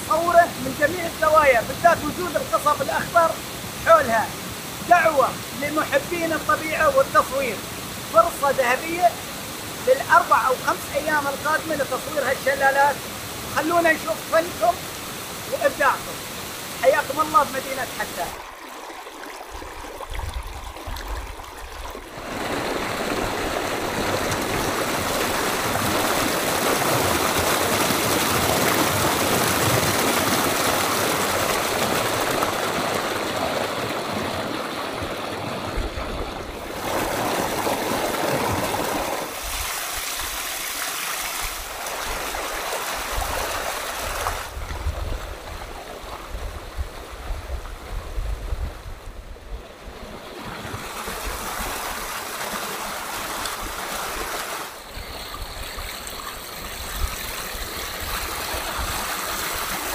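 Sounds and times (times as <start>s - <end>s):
stream rushing over rocks: 0.0s - 48.9s, 49.7s - 59.9s.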